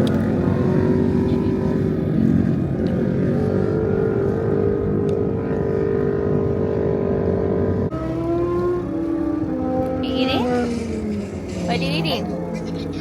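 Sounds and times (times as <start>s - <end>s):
motorcycle engines at high revs: 0.0s - 13.0s.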